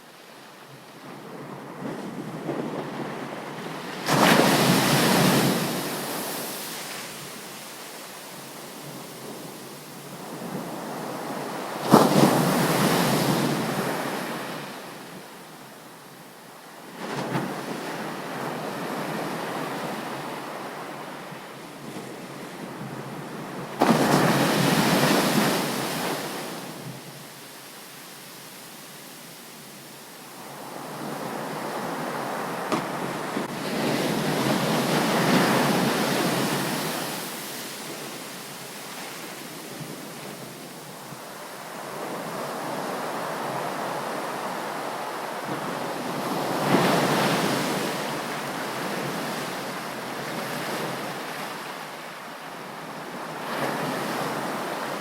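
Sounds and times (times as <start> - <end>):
waves breaking on a beach: 0.0 - 55.0.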